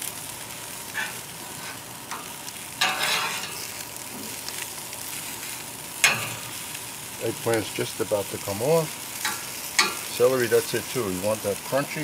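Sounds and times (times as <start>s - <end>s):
vegetables sizzling on a grill: 0.0s - 12.0s.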